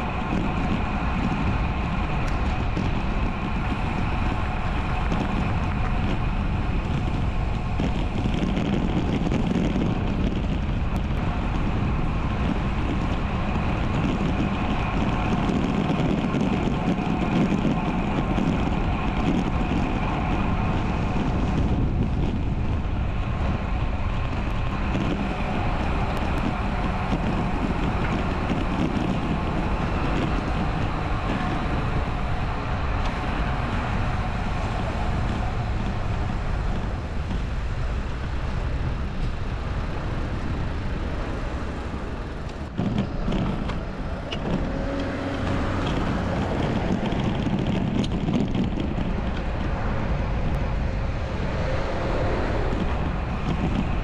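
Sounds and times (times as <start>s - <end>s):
road noise from bike: 0.0s - 54.0s
road traffic: 0.0s - 54.0s
wind rumble: 0.0s - 54.0s.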